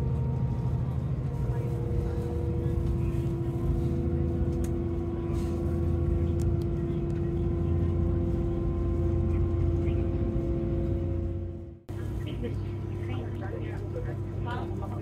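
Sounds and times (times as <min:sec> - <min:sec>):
railcar cabin rumble: 0:00.0 - 0:15.0.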